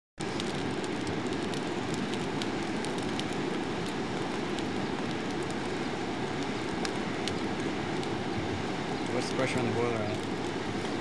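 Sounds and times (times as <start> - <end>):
fire crackles and pops: 0.2 - 11.0
fire rushing steadily: 0.2 - 11.0.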